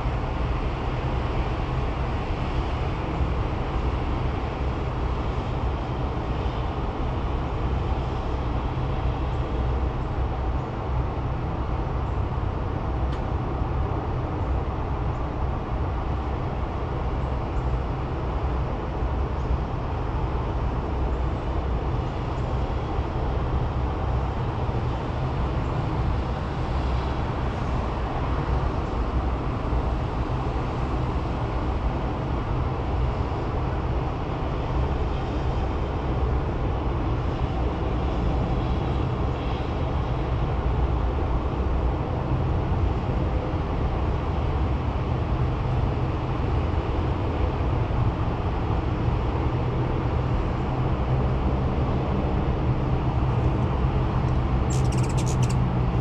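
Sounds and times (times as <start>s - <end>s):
low rumbling background noise: 0.0s - 56.0s.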